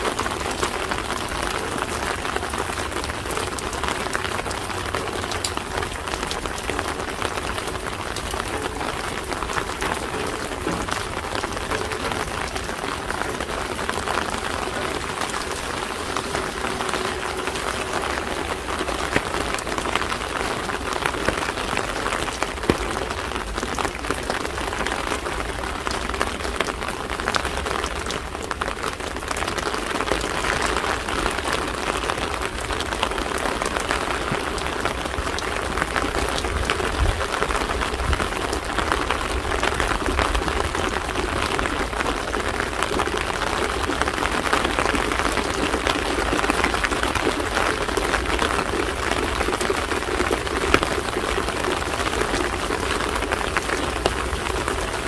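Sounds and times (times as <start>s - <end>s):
rain pattering on hard surfaces: 0.0s - 55.0s.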